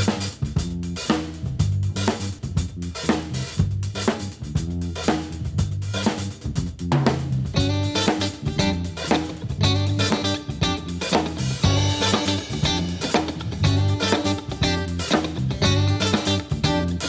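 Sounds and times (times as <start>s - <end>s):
band playing funk groove: 0.0s - 17.0s
bass line: 0.0s - 17.0s
drum kit: 0.0s - 17.0s.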